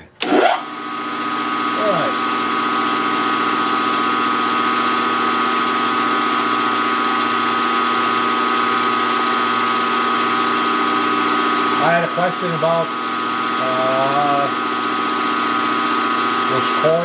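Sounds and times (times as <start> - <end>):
end mill cutting: 0.2 - 17.0
cnc milling machine whining: 1.4 - 17.0.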